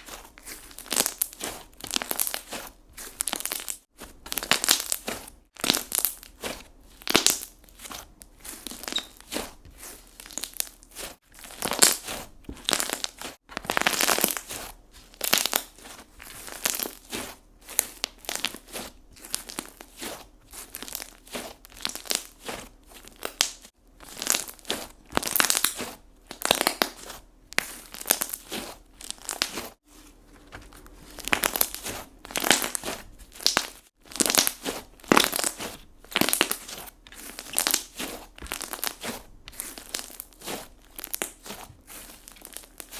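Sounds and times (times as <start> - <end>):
slime squishing and crackling: 0.0 - 42.9.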